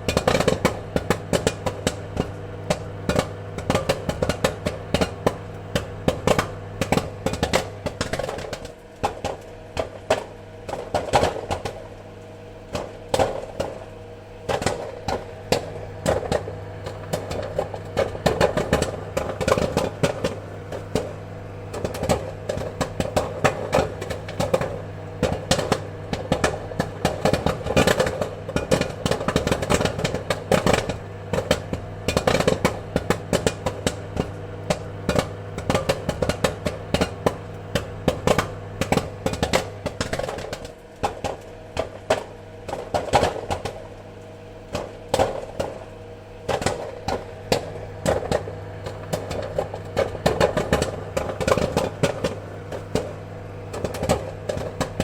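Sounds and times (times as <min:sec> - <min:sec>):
popcorn popping: 0:00.0 - 0:55.0
steady low hum: 0:00.0 - 0:55.0.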